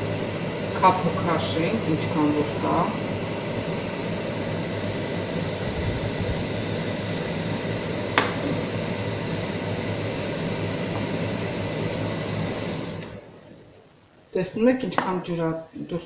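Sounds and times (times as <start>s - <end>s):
gas stove hiss and hum: 0.0s - 16.0s.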